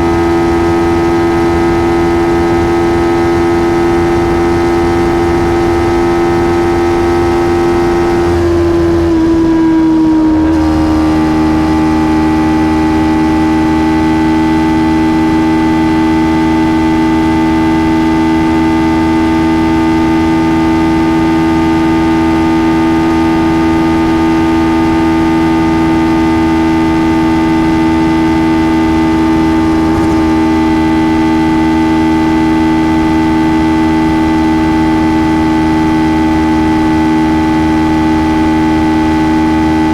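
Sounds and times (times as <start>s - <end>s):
motorcycle engine high-pitched drone: 0.0s - 39.9s.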